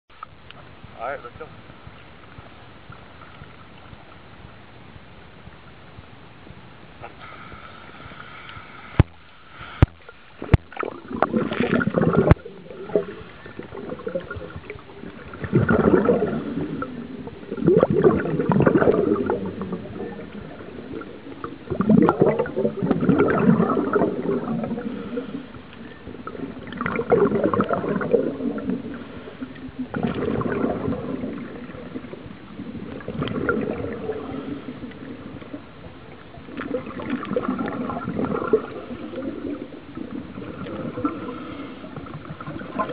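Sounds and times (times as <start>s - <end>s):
underwater exhaust bubbles: 0.1s - 42.9s.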